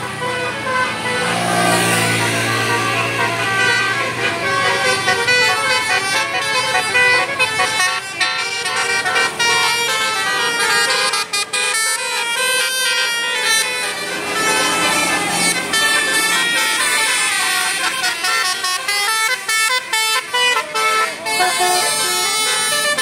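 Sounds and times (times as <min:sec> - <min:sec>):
bus horn playing melody: 0:00.0 - 0:23.0.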